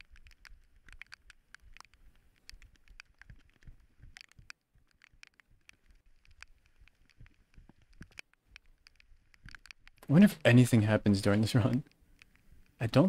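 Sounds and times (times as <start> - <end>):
faint small ticks and clicks: 0.0 - 13.0.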